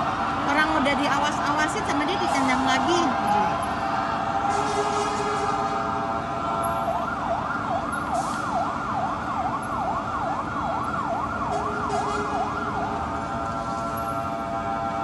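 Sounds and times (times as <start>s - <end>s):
fire engine siren: 0.0s - 15.0s
street noise: 0.0s - 15.0s.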